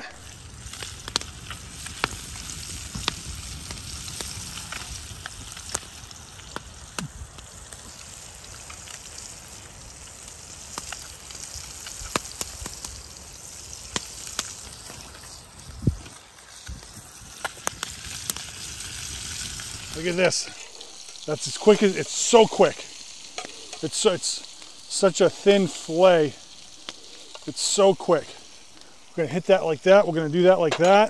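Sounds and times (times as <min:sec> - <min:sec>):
fish sizzling in a frying pan: 0:00.0 - 0:31.0.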